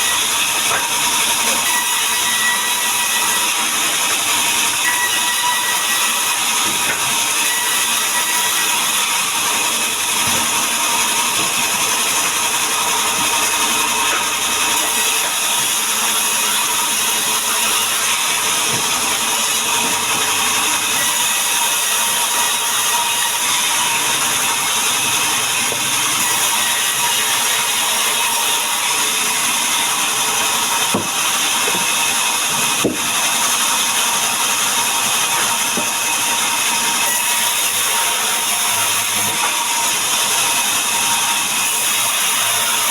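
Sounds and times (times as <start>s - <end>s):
power saw cutting wood: 0.0s - 42.9s.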